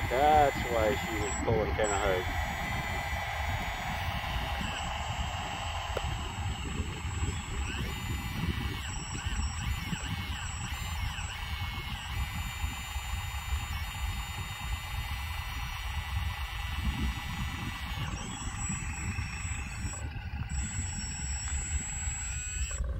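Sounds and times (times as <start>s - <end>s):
high hydraulic pump whine: 0.0s - 22.9s.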